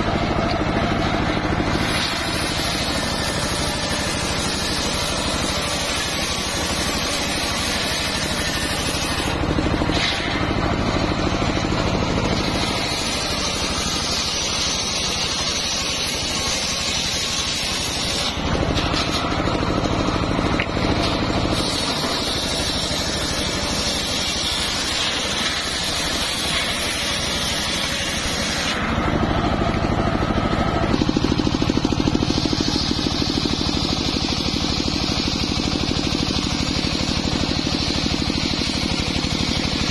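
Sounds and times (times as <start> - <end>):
circular saw cutting through log: 0.0 - 39.9
engine droning: 0.0 - 39.9.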